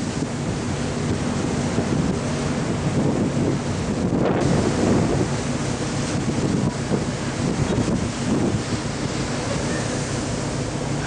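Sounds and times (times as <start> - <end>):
choppy sea rushing: 0.0 - 11.0
strong wind on microphone: 0.0 - 11.0.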